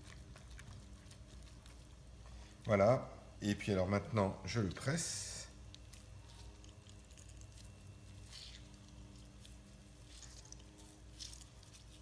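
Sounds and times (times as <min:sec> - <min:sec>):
wet squelches of bread squeezed: 0:00.0 - 0:03.8, 0:04.4 - 0:12.0
low steady hum: 0:00.0 - 0:12.0.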